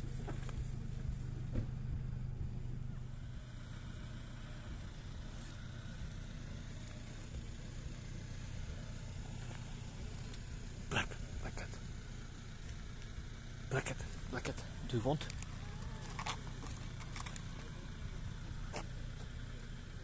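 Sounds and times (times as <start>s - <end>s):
low rumble: 0.0s - 20.0s
vehicle engine hum: 0.0s - 20.0s.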